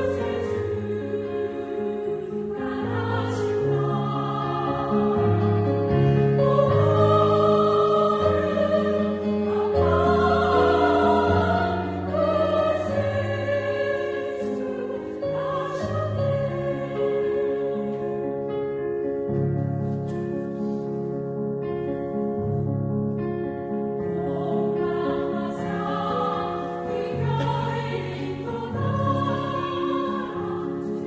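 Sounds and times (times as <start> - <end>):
vocal ensemble singing a hymn: 0.0 - 18.6, 24.0 - 31.0.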